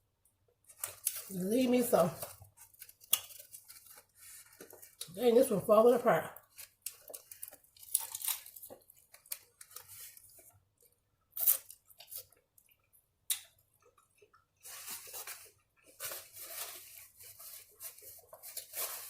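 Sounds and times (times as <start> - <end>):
person chewing tacos: 0.2 - 1.3, 2.2 - 5.1, 6.4 - 19.0.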